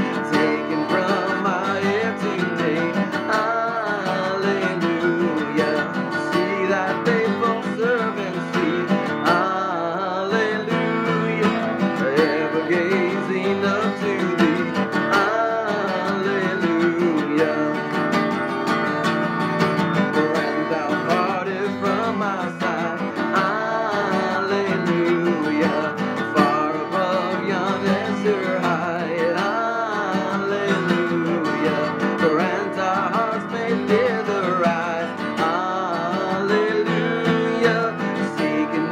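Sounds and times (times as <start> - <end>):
acoustic guitar playing hymn tune: 0.0 - 38.9.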